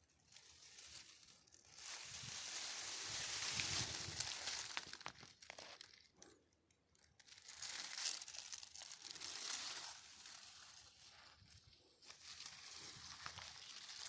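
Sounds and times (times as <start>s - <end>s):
dry rustling and crinkling: 0.0s - 14.0s.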